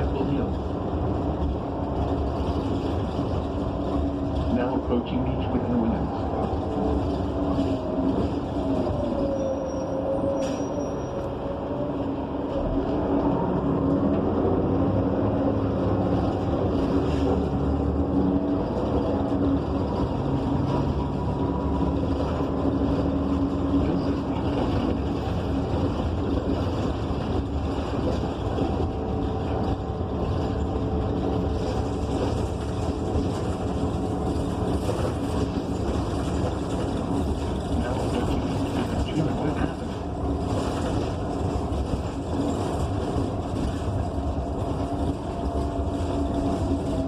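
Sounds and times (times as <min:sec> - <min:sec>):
bus engine drone: 0:00.0 - 0:47.0
road rumble: 0:00.0 - 0:47.0.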